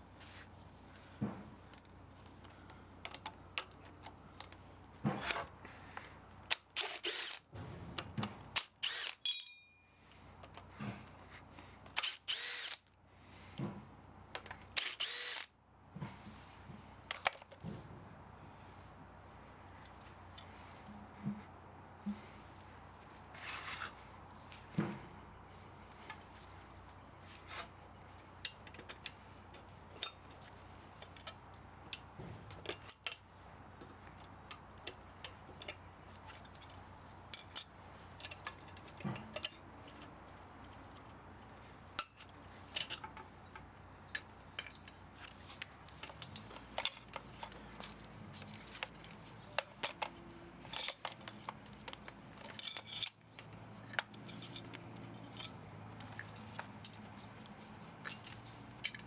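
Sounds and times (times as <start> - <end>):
hand tools clicking and scraping metal: 0.2 - 13.8, 14.4 - 15.5, 22.1 - 25.0, 25.9 - 59.0.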